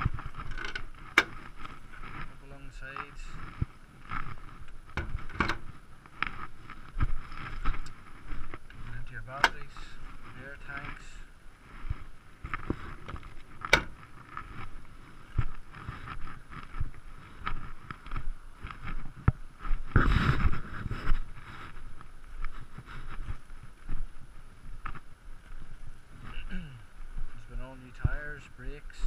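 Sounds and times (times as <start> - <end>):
footsteps on gravel: 0.0 - 29.0
rustle: 0.0 - 29.0
wind on microphone: 3.1 - 29.0.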